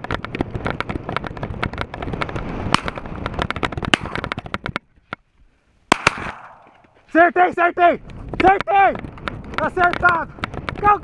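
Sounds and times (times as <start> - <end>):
wind-like noise: 0.0 - 11.0.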